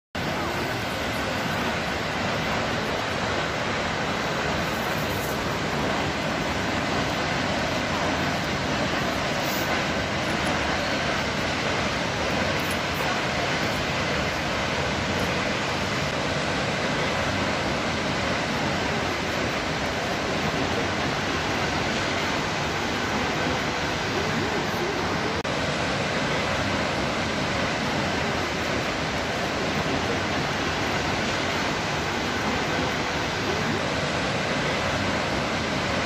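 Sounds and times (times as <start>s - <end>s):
waterfall rushing: 0.2s - 36.0s.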